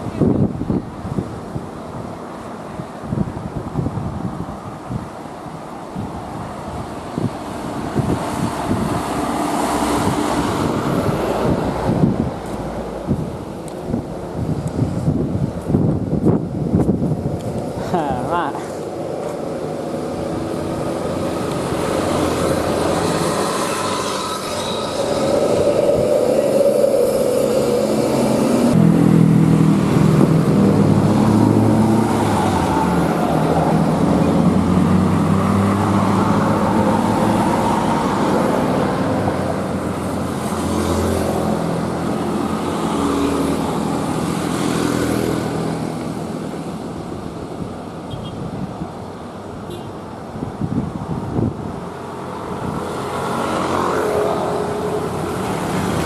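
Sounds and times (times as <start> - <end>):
truck diesel engine passing: 6.2 - 16.6, 17.2 - 48.4, 51.7 - 56.0.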